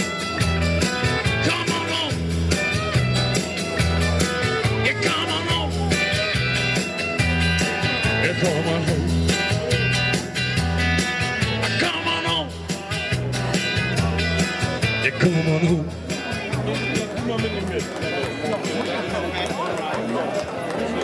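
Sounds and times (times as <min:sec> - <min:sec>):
steady drum beat: 0:00.0 - 0:19.2
bass guitar: 0:00.0 - 0:19.4
electric guitar: 0:00.0 - 0:19.4.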